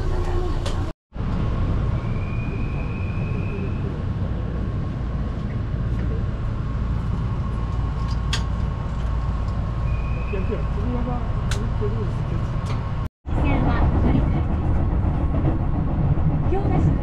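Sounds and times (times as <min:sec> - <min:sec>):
train rumble and hum: 0:00.0 - 0:17.0.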